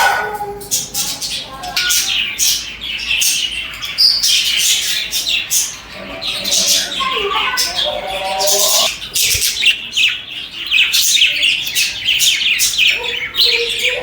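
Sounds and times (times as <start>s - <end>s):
budgerigars chirping and chattering: 1.2s - 14.0s.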